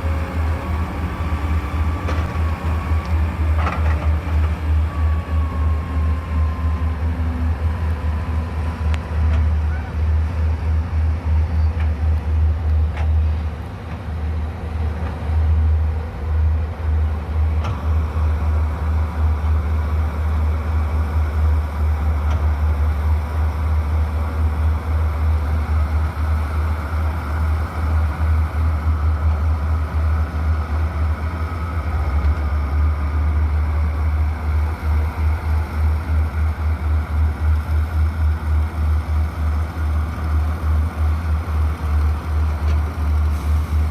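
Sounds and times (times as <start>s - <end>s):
diesel engine running steadily: 0.0s - 43.9s.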